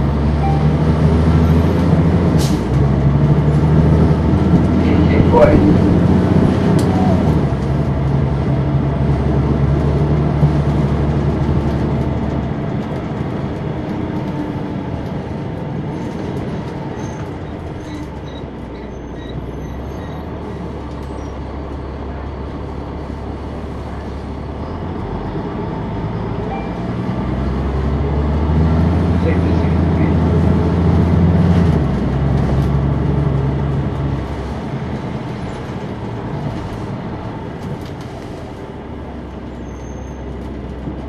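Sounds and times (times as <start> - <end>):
bus diesel engine: 0.0 - 41.0.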